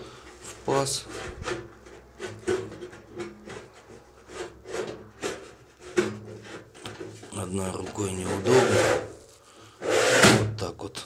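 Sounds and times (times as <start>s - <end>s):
metal lid scraping and knocking: 0.0s - 10.6s.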